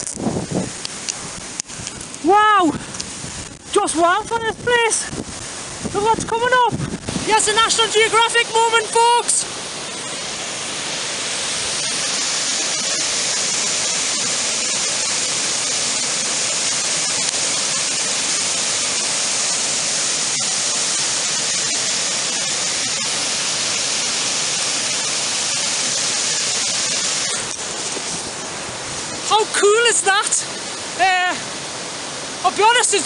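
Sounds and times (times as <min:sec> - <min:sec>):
waterfall crashing onto rocks: 0:00.0 - 0:33.0.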